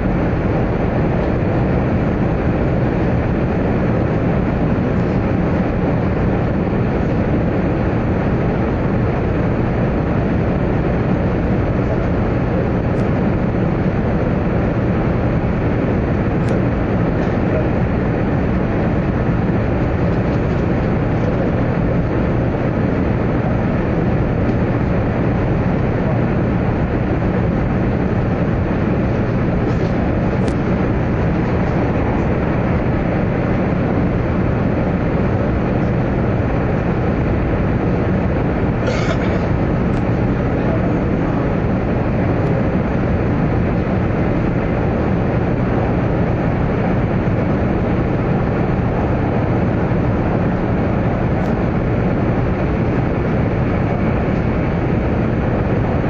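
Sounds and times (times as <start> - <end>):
train rumbling in tunnel: 0.0 - 56.0.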